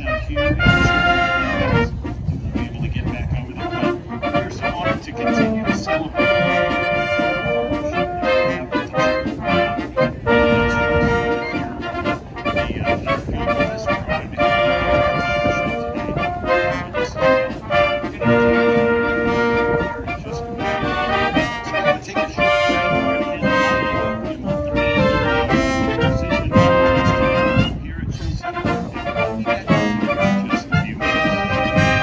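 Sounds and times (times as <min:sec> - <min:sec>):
military brass band playing: 0:00.0 - 0:32.0.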